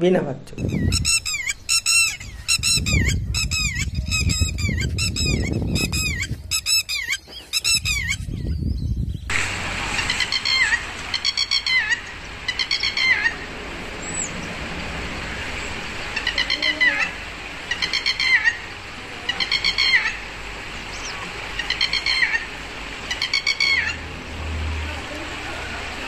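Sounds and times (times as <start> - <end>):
lapwing shrill alarm calls: 0.6 - 8.3, 9.8 - 14.6, 15.2 - 24.1.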